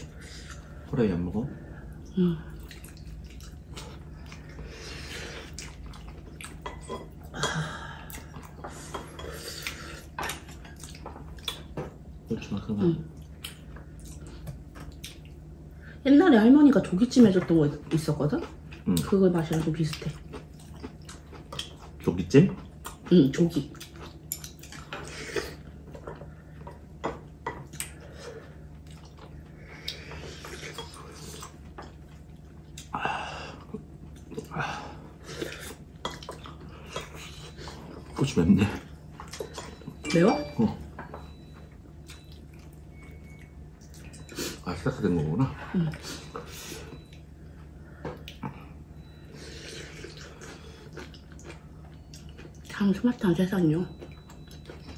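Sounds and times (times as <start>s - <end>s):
faint steady hum: 0.0s - 54.9s
chewing: 1.9s - 12.0s, 13.1s - 15.5s, 17.1s - 40.0s, 40.8s - 45.2s, 45.9s - 52.8s, 53.8s - 54.9s.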